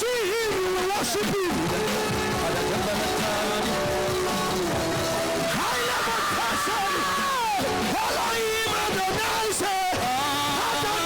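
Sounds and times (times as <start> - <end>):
live worship band music: 0.0 - 11.0.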